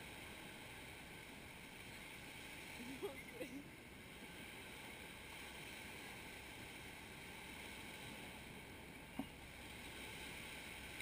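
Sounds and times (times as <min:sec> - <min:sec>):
surf breaking on a beach: 0:00.0 - 0:11.0.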